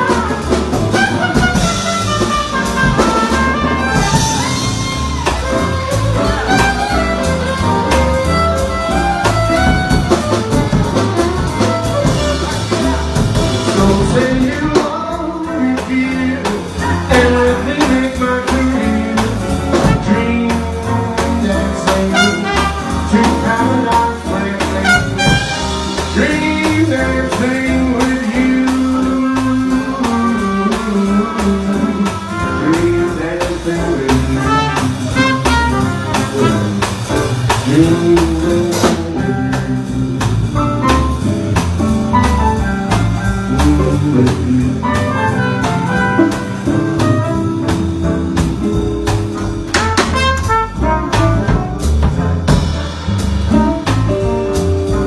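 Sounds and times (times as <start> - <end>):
jazz music with horns: 0.0 - 55.0.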